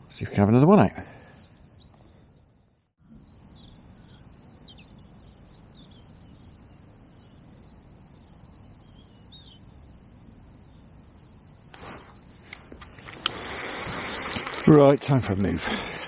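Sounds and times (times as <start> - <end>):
songbird chirps: 0.0 - 15.6
faint low background noise: 0.0 - 15.7.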